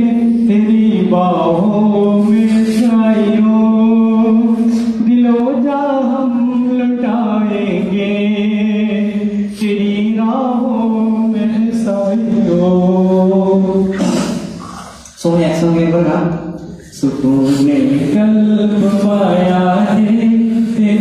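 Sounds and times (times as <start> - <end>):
man singing unaccompanied: 0.0 - 14.6, 15.2 - 21.0.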